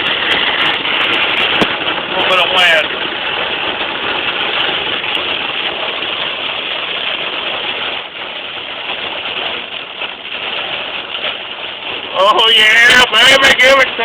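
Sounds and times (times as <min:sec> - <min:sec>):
heavy rain on a car: 0:00.0 - 0:14.0
tyres hissing through water: 0:00.0 - 0:14.0.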